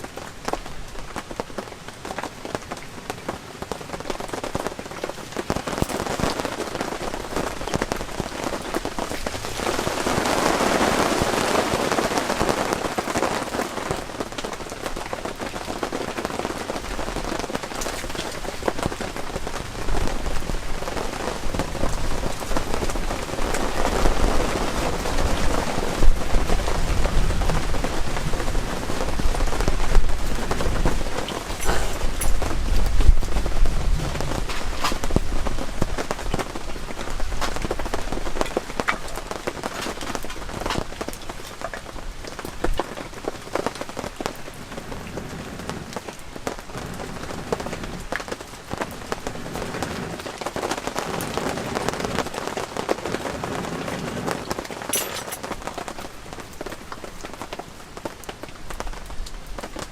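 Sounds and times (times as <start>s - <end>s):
heavy rain on tent canvas: 0.0s - 59.9s.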